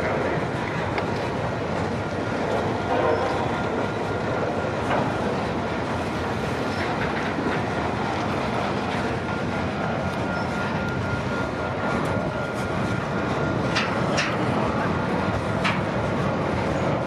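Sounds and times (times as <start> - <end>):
freight train wheels clicking: 0.0 - 17.0
train rumble: 0.0 - 17.0.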